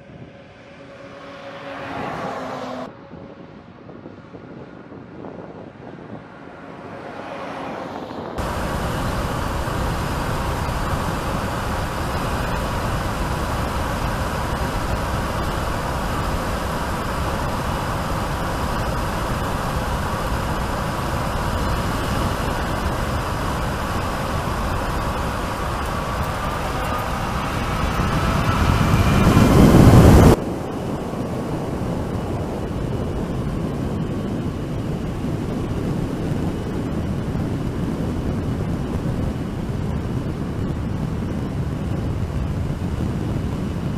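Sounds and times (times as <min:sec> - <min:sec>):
truck tyre and road rumble: 0:00.0 - 0:43.9
faint high whine: 0:07.9 - 0:43.9.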